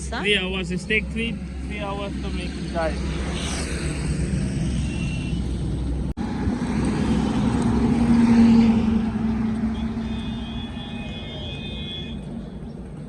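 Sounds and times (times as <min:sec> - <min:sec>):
motor vehicle passing by: 0:00.2 - 0:13.0.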